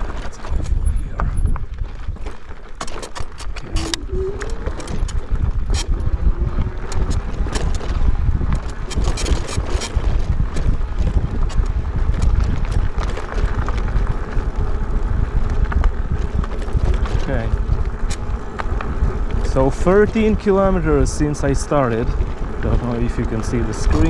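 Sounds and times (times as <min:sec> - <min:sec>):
sharp clicks and rattles: 0:00.0 - 0:24.0
wind buffeting microphone: 0:00.0 - 0:24.0.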